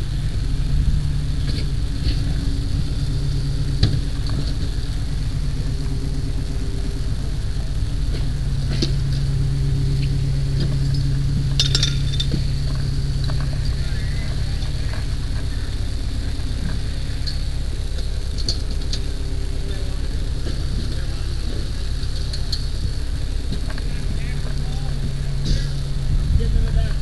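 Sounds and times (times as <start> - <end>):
fire engine motor droning: 0.0 - 27.0.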